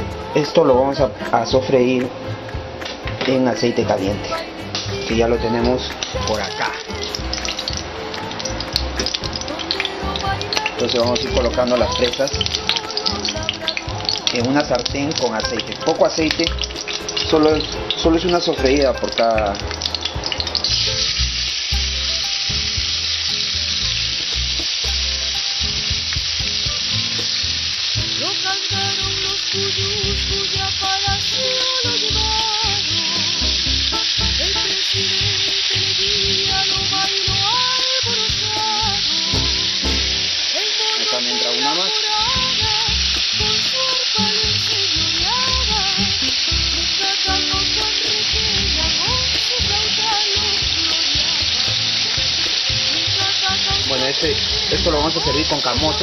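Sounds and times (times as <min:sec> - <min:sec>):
meat sizzling in a skillet: 0:00.0 - 0:56.0.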